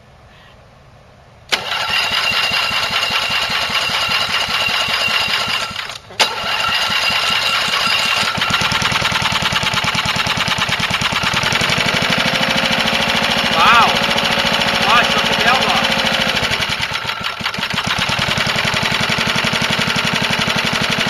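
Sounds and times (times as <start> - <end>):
lawnmower engine running: 1.5 - 21.0.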